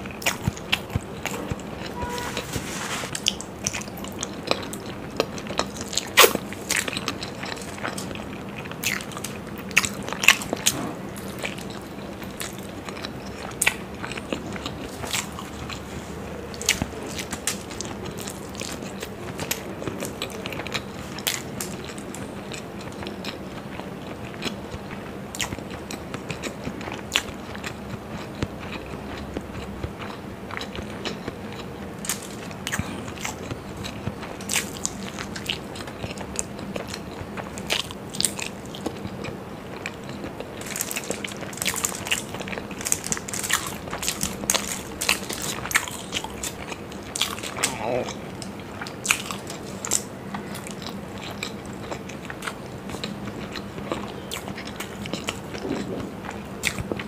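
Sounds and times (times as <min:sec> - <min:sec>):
biting and chewing food: 0:00.0 - 0:57.0.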